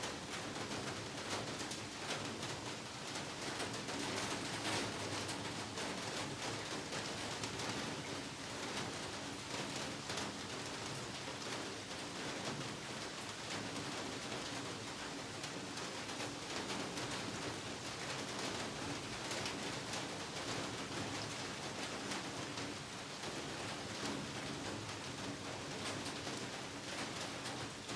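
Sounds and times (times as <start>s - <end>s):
heavy rain falling: 0.1s - 27.9s.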